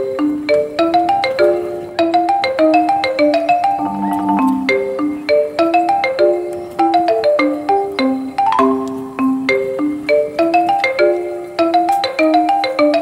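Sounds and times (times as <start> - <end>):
mallet instrument melody: 0.0 - 13.0.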